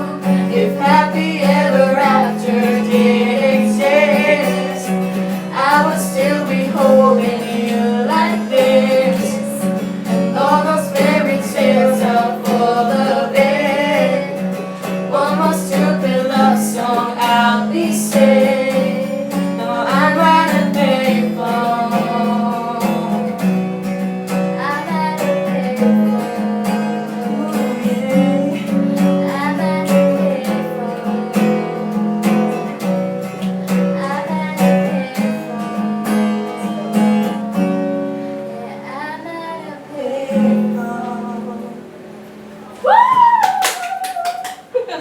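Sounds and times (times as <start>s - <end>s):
acoustic guitar strumming: 0.0s - 43.3s.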